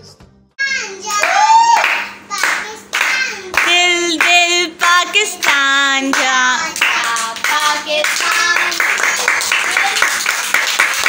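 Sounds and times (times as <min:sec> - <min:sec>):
girl singing: 0:00.6 - 0:10.5
hands clapping: 0:01.2 - 0:11.0.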